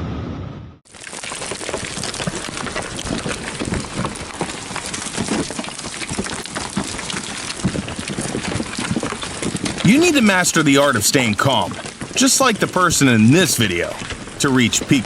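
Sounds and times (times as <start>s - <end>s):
heavy rain pattering: 0.9s - 15.0s.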